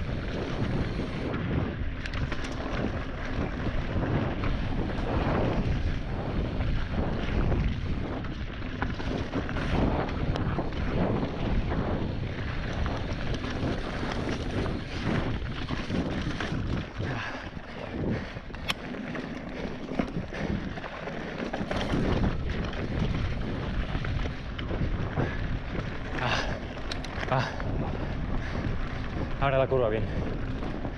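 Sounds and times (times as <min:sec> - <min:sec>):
bike knocking and rattling: 0:00.0 - 0:30.9
tyres rumbling on dirt: 0:00.0 - 0:30.9
wind buffeting microphone: 0:00.0 - 0:30.9.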